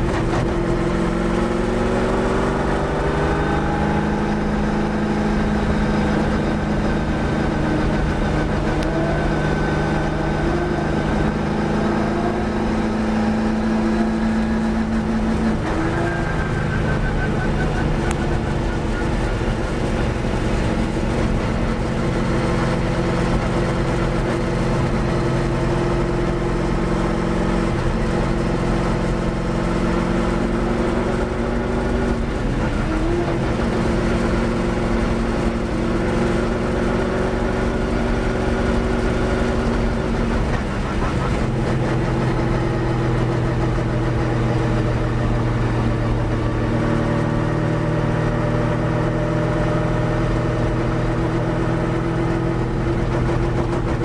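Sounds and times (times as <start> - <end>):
racing car engine running: 0.0 - 54.0.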